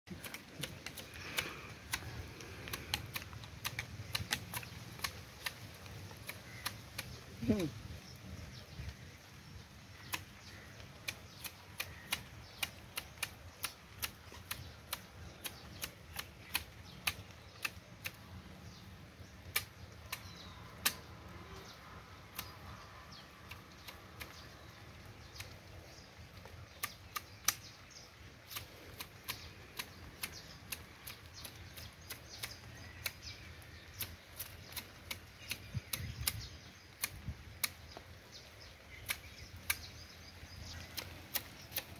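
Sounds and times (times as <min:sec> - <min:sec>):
hedge shears snipping: 0:00.1 - 0:07.7, 0:09.9 - 0:18.4, 0:19.4 - 0:21.1, 0:22.3 - 0:22.8, 0:23.4 - 0:41.9.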